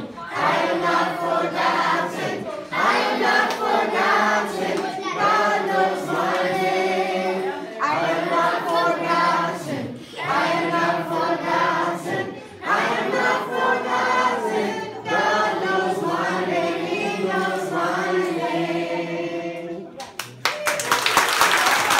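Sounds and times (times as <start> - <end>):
children singing a worship song: 0.0 - 19.9.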